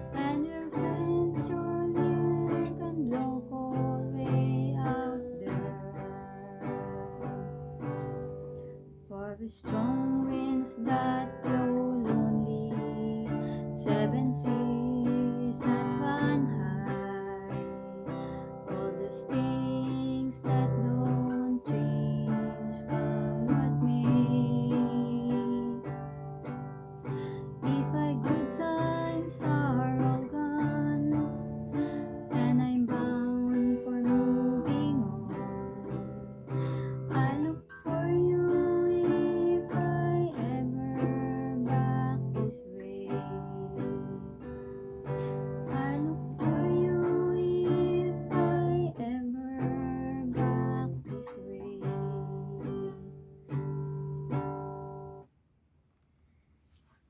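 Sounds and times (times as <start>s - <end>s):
acoustic guitar strumming: 0.0s - 55.3s.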